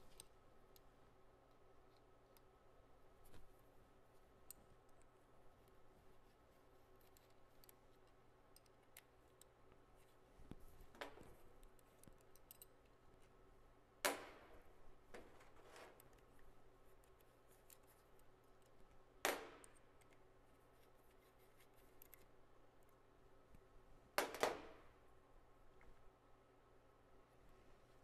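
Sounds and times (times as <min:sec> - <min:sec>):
faint handling noise: 0:00.0 - 0:13.4, 0:14.5 - 0:24.0.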